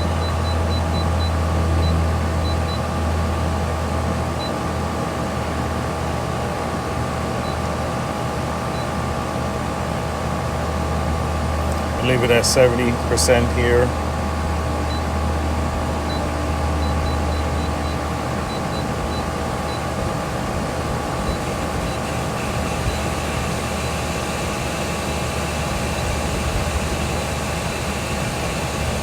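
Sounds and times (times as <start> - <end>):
pool pump motor humming: 0.0 - 29.0.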